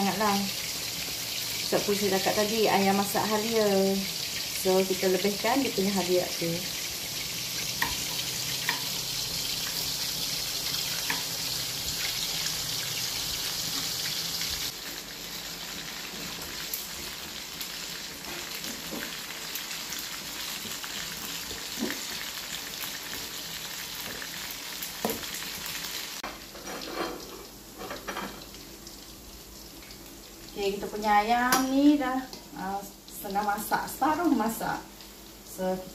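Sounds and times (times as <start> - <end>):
chicken sizzling in hot oil: 0.0 - 35.9.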